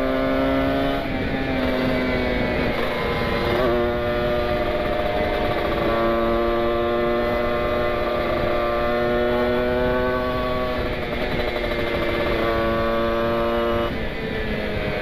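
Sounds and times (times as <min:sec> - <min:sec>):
motorcycle engine at high revs: 0:00.0 - 0:15.0
wind rushing over microphone: 0:00.0 - 0:15.0.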